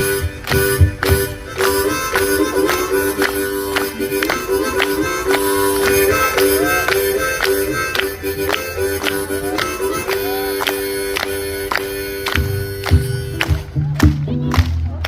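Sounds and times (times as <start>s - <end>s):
harmonica melody: 0.0s - 14.0s.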